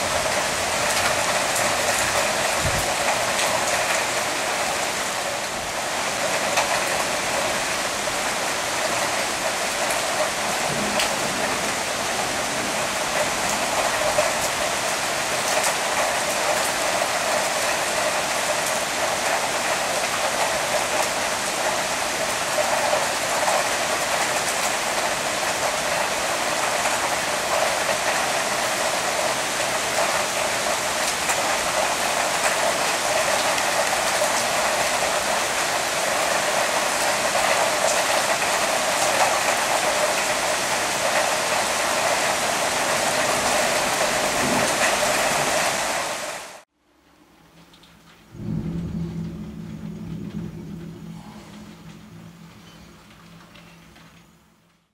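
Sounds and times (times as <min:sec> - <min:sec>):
heavy rain splashing on roof: 0:00.0 - 0:54.9.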